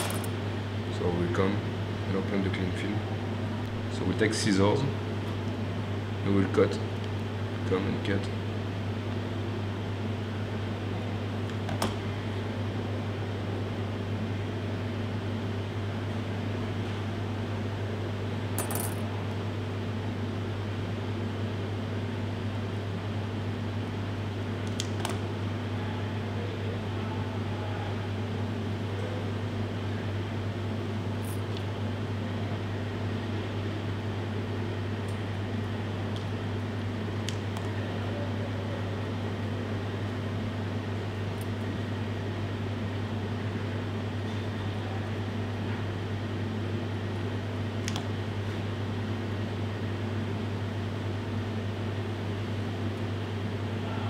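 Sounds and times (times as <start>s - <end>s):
ventilation fan humming: 0.0s - 54.0s.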